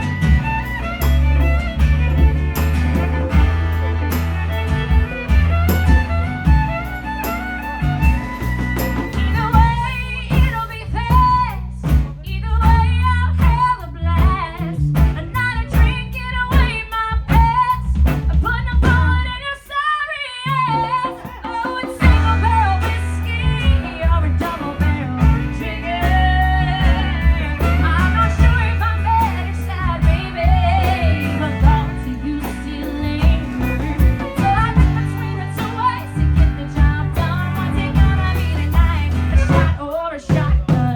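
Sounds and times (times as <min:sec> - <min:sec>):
live rock band playing: 0:00.0 - 0:19.4, 0:20.4 - 0:40.9.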